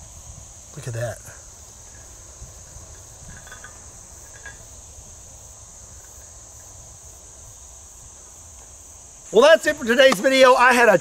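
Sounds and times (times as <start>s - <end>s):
low wind rumble: 0.0s - 9.9s
insects droning: 0.0s - 11.0s.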